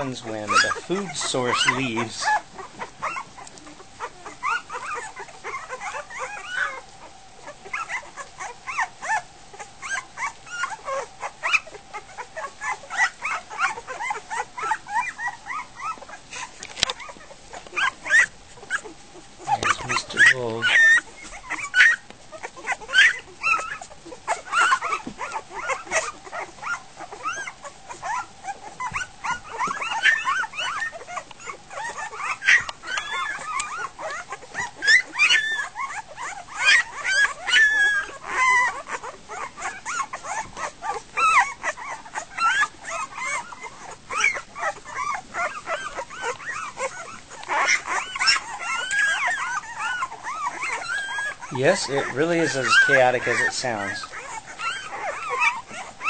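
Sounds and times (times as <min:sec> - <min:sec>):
puppies crying and whimpering: 0:00.0 - 0:56.0.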